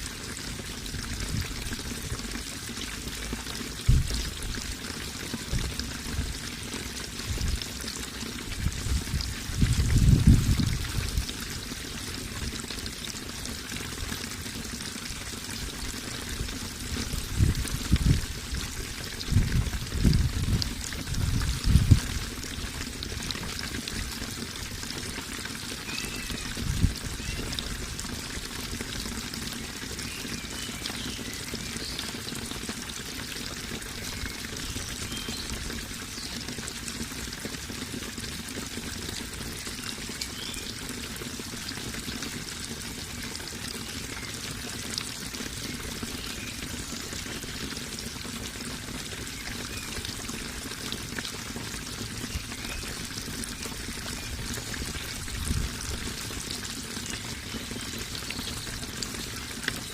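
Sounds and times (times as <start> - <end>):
running water pouring and splashing: 0.0 - 59.9.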